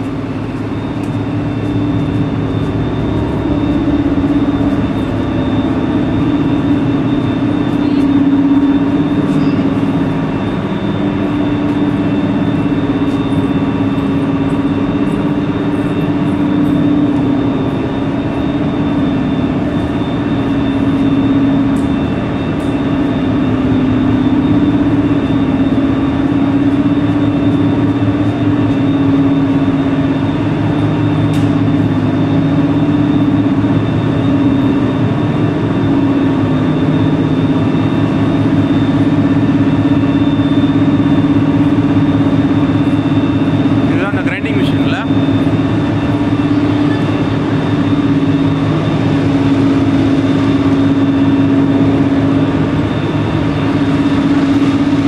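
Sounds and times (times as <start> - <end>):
faint steady whines: 0.0 - 55.0
industrial machinery drone: 0.0 - 55.0.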